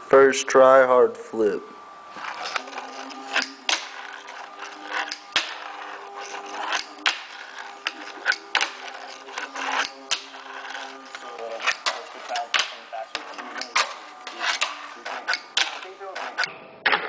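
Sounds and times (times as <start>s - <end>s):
faint steady hum: 0.0s - 16.8s
tiny wheels rolling: 2.1s - 16.5s.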